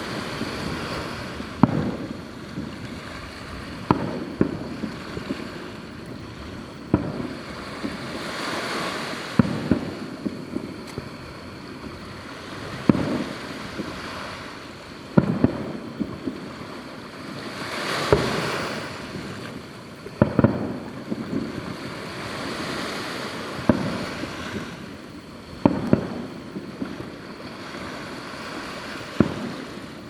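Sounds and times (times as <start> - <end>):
fireworks booming: 0.0 - 30.0
fireworks hiss and crackle: 0.0 - 30.0.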